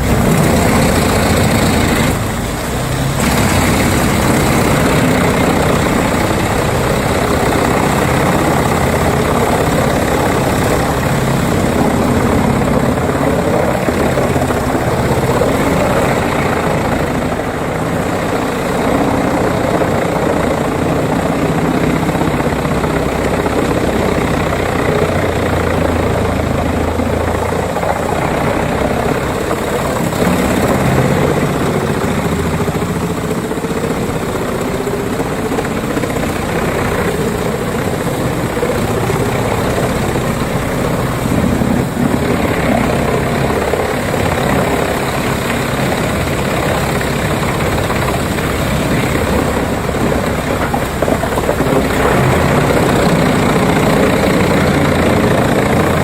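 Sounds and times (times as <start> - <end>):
wood chipper running: 0.0 - 56.0.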